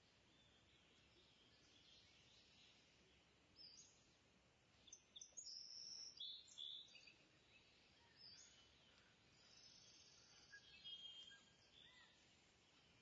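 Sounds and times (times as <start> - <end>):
birds chirping: 0.0 - 13.0
low background hiss: 0.0 - 13.0.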